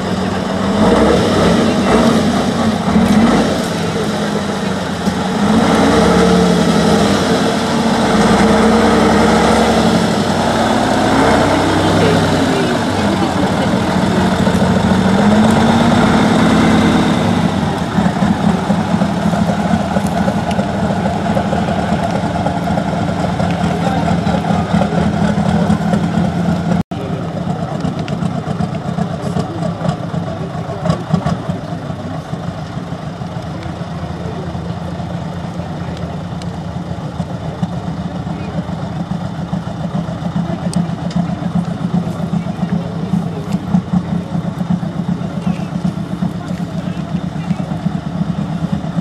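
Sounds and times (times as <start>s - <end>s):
truck engine revving in mud: 0.0s - 49.0s.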